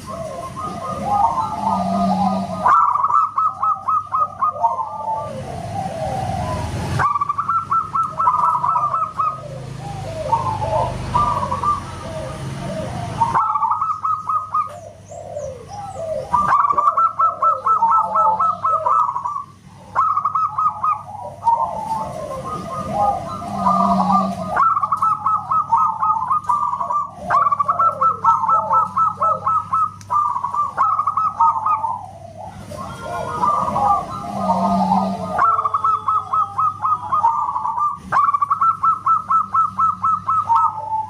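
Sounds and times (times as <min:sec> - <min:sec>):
doves cooing: 0:00.0 - 0:41.0.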